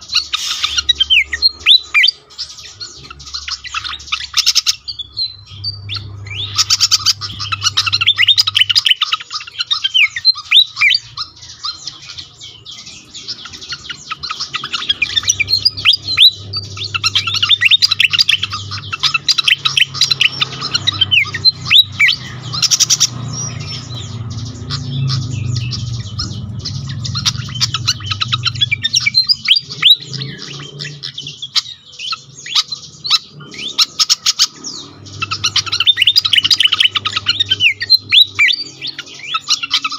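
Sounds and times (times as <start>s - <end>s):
bird chirping and whistling: 0.0s - 39.9s
low steady hum: 0.0s - 39.9s.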